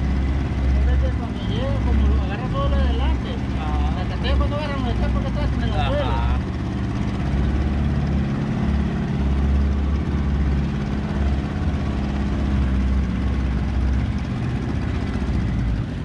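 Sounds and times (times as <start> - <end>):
outboard motor droning: 0.0 - 16.0.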